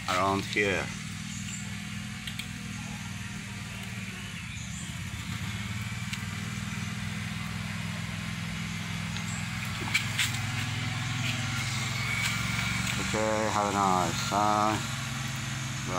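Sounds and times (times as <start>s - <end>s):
low mechanical hum: 0.0s - 15.9s.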